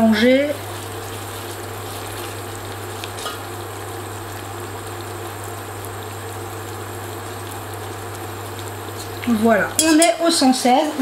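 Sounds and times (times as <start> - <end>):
syrup boiling in a saucepan: 0.0 - 11.0.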